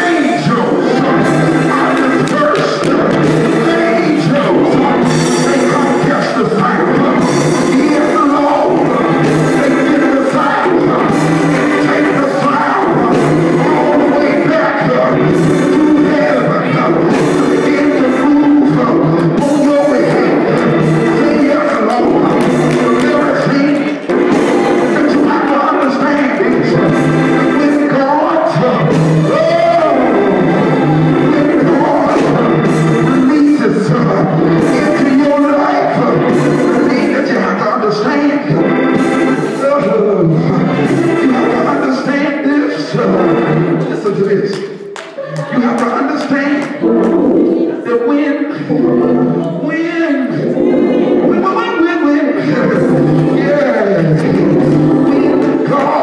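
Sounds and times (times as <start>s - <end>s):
organ sustained chords: 0.0s - 44.9s, 45.5s - 56.0s
church music with singing: 0.0s - 56.0s.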